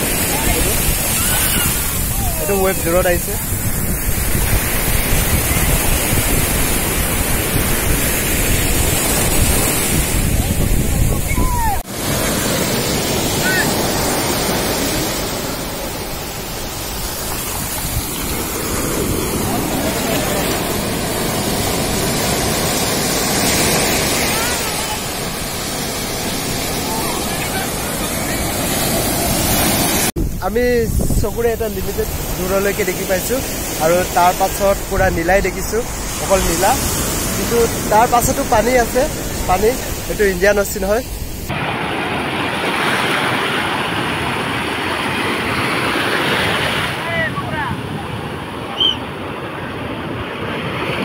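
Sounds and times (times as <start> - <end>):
surf breaking on sand: 0.0 - 51.0.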